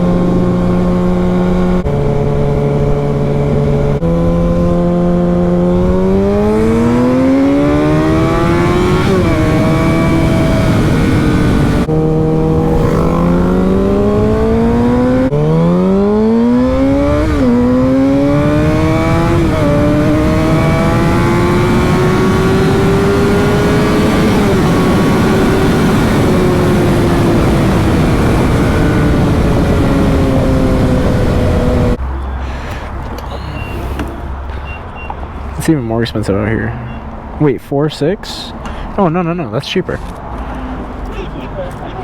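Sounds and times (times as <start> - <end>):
motorcycle engine accelerating: 0.0 - 32.0, 33.0 - 35.6
wind and road rush: 0.0 - 42.0.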